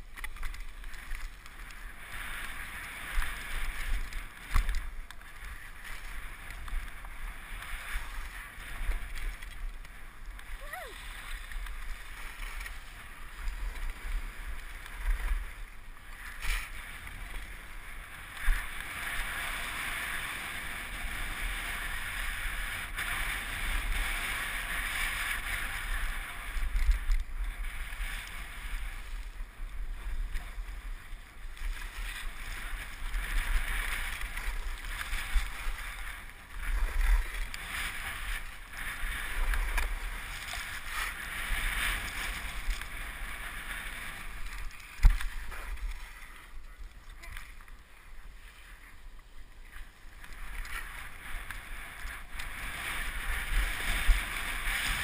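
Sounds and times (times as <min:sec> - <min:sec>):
skis scraping over snow: 0:00.0 - 0:55.0
wind rumbling on microphone: 0:00.0 - 0:55.0.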